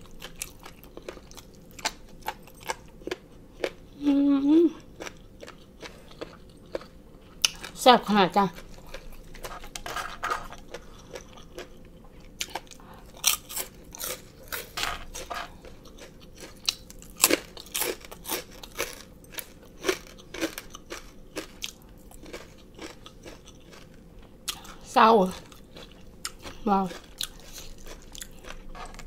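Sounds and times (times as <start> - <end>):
chewing crunchy food: 0.0 - 4.0, 4.8 - 29.0.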